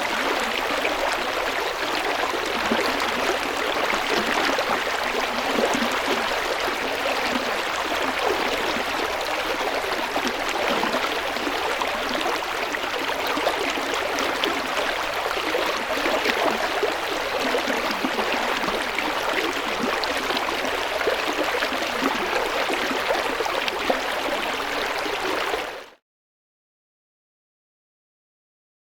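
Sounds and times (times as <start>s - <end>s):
river water flowing over stones: 0.0s - 25.6s.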